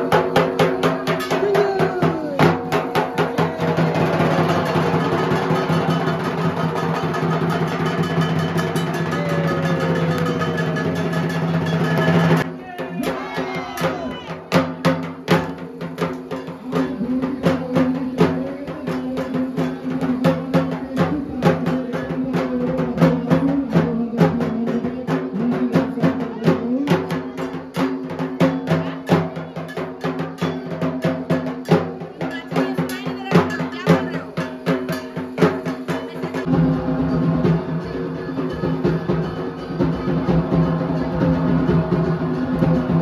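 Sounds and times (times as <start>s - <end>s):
crowd voices: 0.0s - 43.0s
fast rhythmic drumming: 0.0s - 43.0s.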